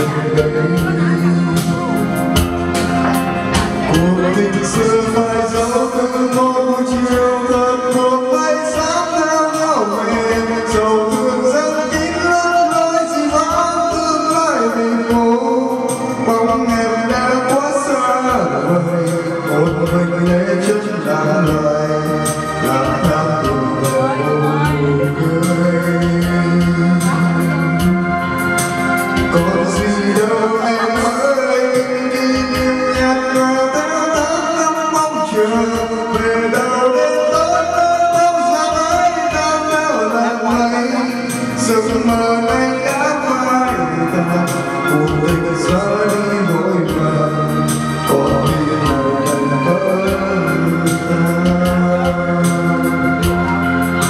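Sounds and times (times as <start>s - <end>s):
man singing into microphone: 0.0s - 54.0s
music backing track: 0.0s - 54.0s.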